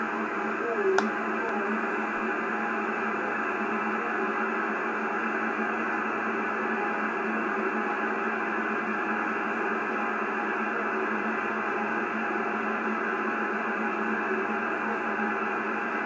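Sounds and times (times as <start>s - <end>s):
faint steady tones: 0.0s - 16.0s
radio static hiss: 0.0s - 16.0s.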